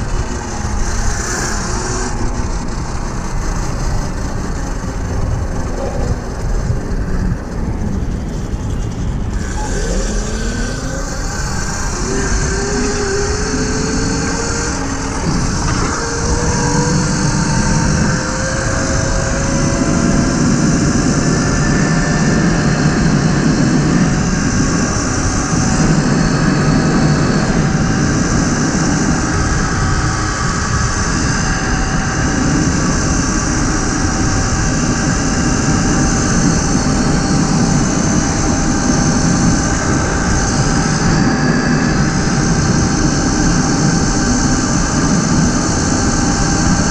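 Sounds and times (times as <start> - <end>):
electric motor whine: 0.0 - 46.9
wind rush on microphone: 0.0 - 46.9.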